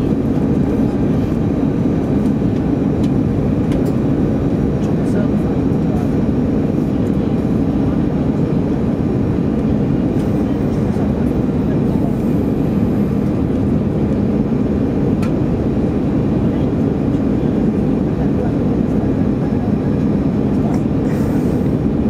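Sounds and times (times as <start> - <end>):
airplane cabin engine and airflow noise: 0.0 - 22.0.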